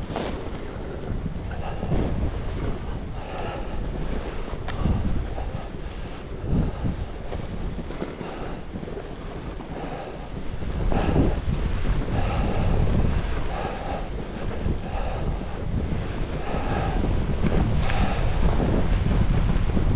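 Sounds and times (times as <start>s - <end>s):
skis scraping on snow: 0.0s - 19.9s
wind buffeting microphone: 0.0s - 19.9s.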